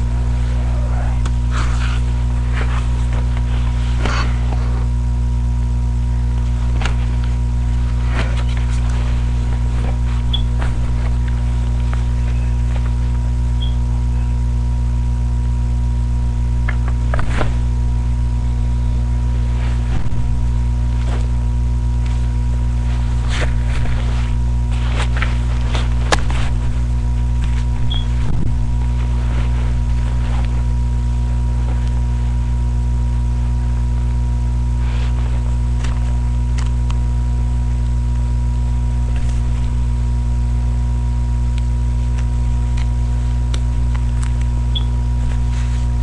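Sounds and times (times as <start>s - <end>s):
loud electrical hum: 0.0s - 46.0s.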